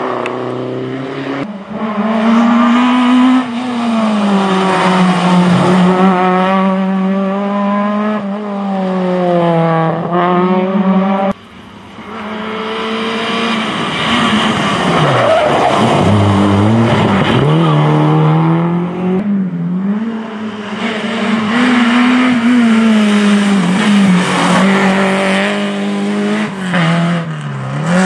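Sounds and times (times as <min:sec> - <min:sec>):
rally car engines revving: 0:00.0 - 0:28.0.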